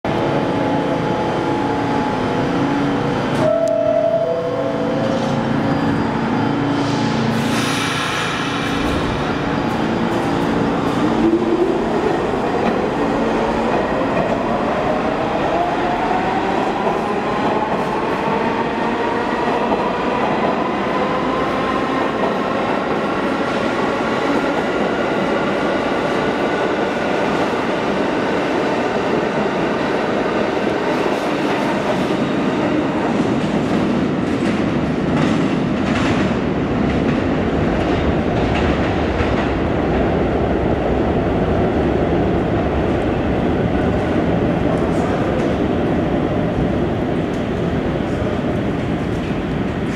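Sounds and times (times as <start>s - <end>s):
steel wheels rumbling on rail: 0.1s - 49.9s.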